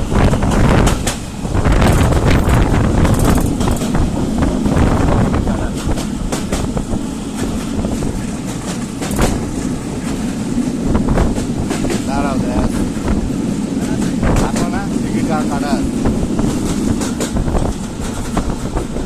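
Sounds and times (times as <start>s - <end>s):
train rumbling on rails: 0.0s - 19.0s
wheels clacking over rail joints: 0.0s - 19.0s.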